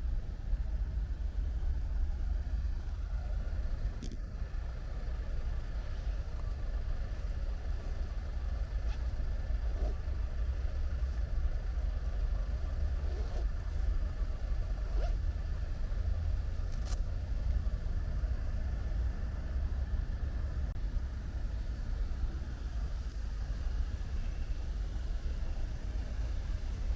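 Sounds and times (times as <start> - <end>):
low rumble: 0.0 - 26.9.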